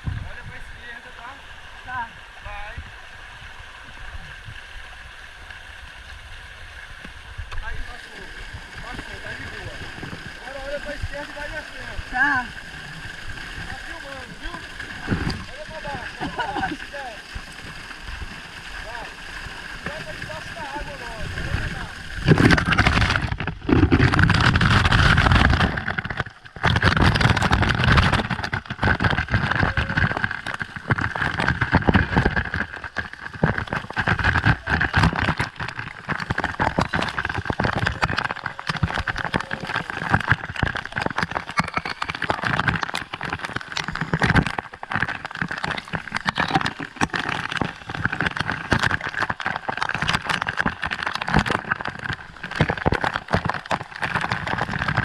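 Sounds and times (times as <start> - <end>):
waterfall rushing and splashing: 7.6 - 55.0.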